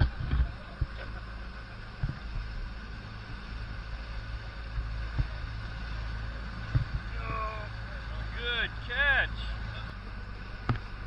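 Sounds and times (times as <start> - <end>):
boat engine humming: 0.0 - 11.0
wind: 0.0 - 11.0.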